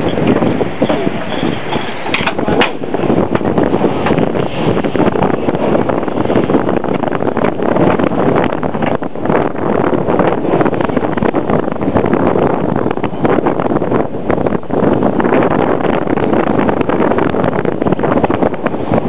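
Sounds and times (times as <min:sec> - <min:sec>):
steam train rumbling: 0:00.0 - 0:19.0
wind buffeting microphone: 0:00.0 - 0:19.0.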